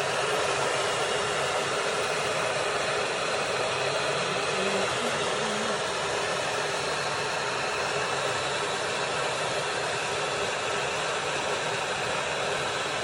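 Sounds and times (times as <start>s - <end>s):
kettle water boiling: 0.0s - 13.0s.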